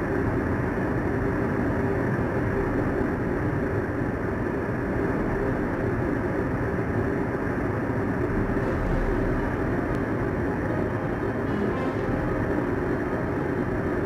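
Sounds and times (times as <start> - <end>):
engine rumble: 0.6 - 14.0.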